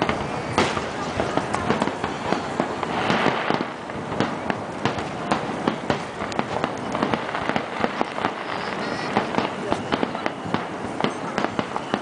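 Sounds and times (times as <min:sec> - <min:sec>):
crackling firework stars: 0:00.0 - 0:12.0
firework shells bursting: 0:00.0 - 0:12.0.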